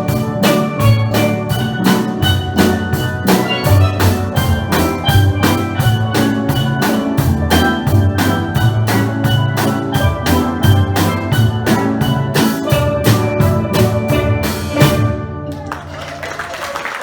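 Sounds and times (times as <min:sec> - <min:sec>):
steel pan band: 0:00.0 - 0:15.8
drum kit beat: 0:00.0 - 0:16.0.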